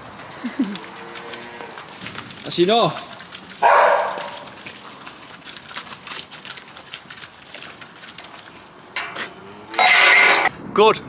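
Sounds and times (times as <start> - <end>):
cow hooves clopping on concrete: 0.0 - 10.5.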